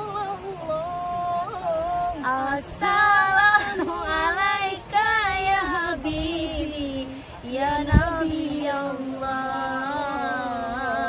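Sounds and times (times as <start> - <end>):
women singing devotional song: 0.0 - 11.0.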